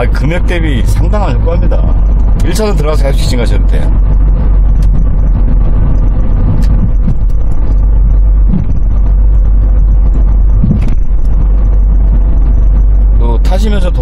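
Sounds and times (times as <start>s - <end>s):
van engine and road rumble: 0.0s - 14.0s.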